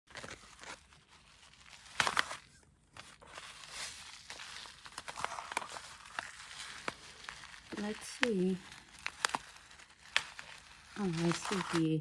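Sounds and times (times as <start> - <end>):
plastic packet crinkling: 0.1 - 12.0.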